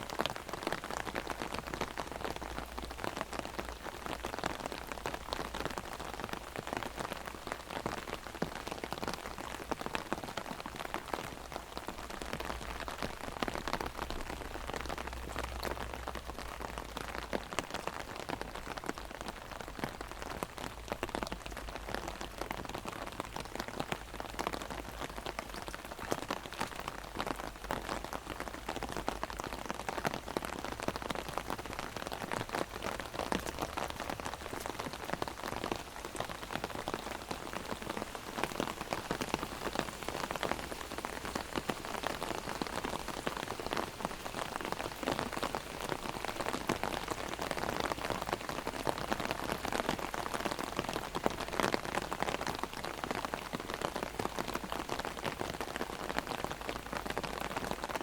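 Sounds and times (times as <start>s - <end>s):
heavy rain on an umbrella: 0.0s - 58.0s.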